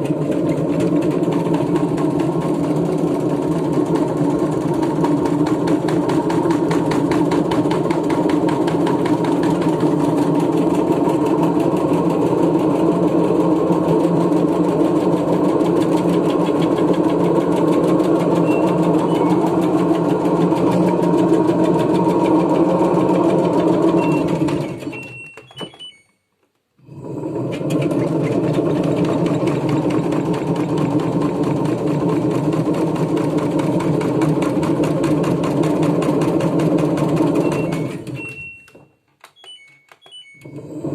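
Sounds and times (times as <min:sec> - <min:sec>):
fast steady rattle: 0:00.0 - 0:25.5, 0:27.1 - 0:38.2
washing machine spinning: 0:00.0 - 0:26.2, 0:26.8 - 0:40.9.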